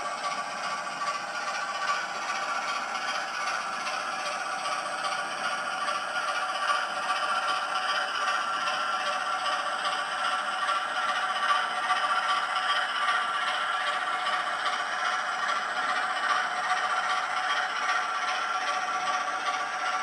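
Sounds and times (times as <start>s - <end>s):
model train wheels rattling: 0.0s - 20.0s.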